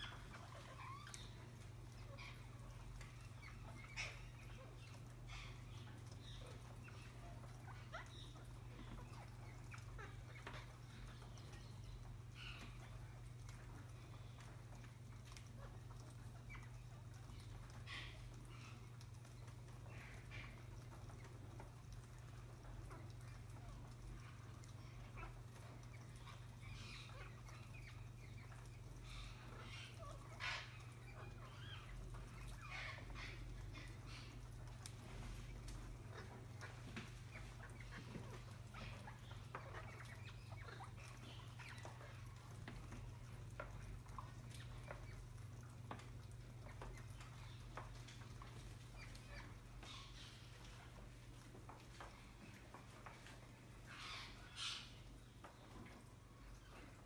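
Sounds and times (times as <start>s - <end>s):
low steady hum: 0.0s - 57.0s
parakeets chirping and squawking: 0.0s - 57.0s.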